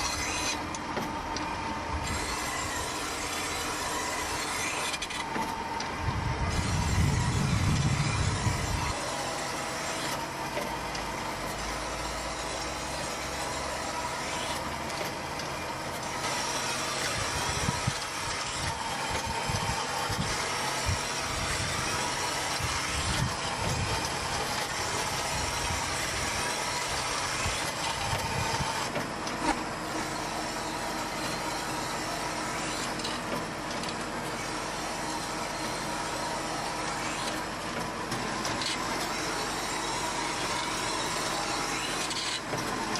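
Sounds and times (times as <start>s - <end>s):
engine and machinery running: 0.0s - 42.9s.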